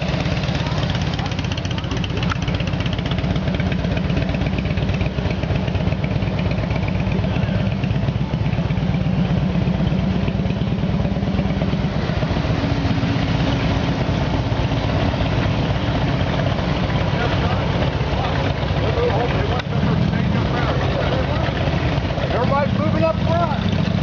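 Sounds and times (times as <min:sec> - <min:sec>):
motorcycle engines idling: 0:00.0 - 0:24.0.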